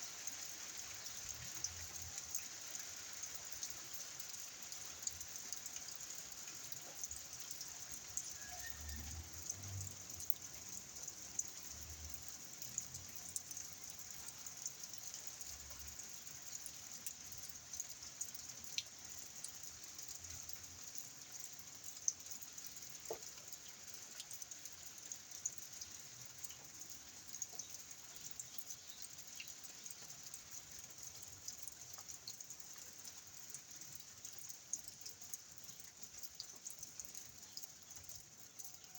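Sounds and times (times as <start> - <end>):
rain hiss: 0.0 - 38.9
raindrops ticking: 0.0 - 38.9.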